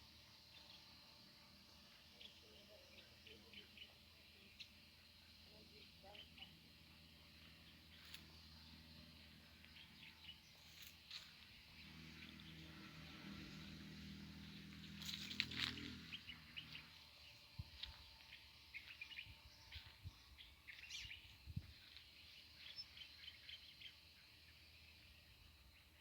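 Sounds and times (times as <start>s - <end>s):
small songbirds chirping: 0.0s - 26.0s
faint low rumble: 4.9s - 26.0s.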